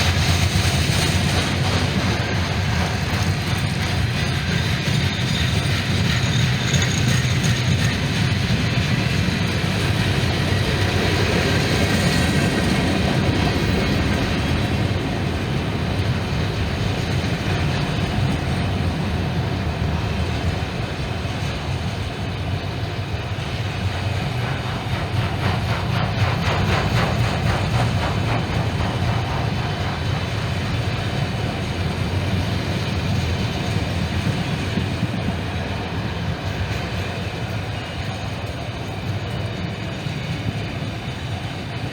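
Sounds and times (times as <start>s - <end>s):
freight train rolling past: 0.0s - 41.9s.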